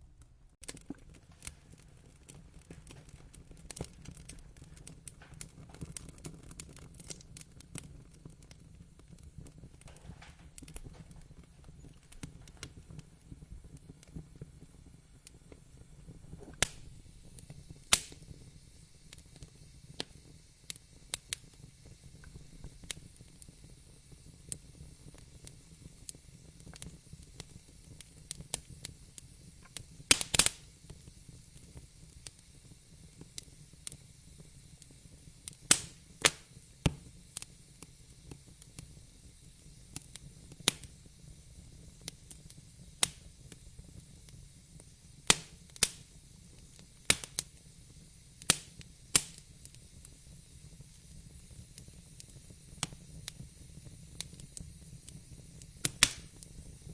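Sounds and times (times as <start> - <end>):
fire crackles and pops: 0.0 - 56.9
wood fire hissing: 0.0 - 56.9.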